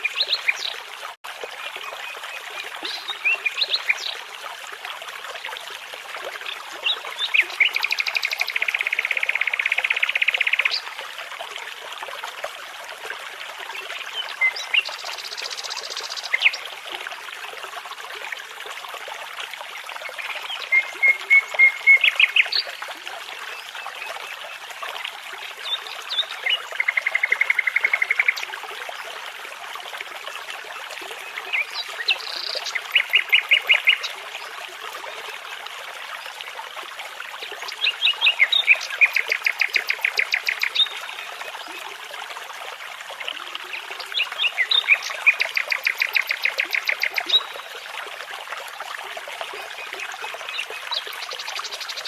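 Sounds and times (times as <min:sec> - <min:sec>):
brook babbling: 0:00.0 - 0:52.0.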